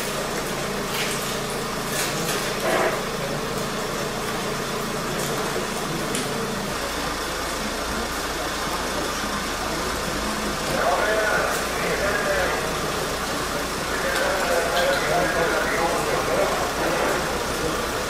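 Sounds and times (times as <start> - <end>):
motor idling hum: 0.0 - 18.0.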